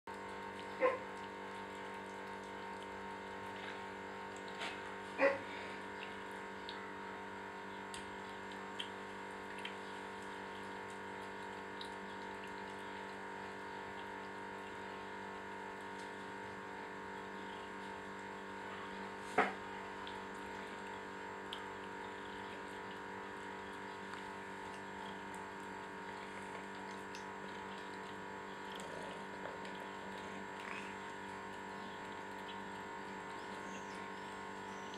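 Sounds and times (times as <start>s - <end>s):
cats eating from metal bowl: 0.1s - 34.9s.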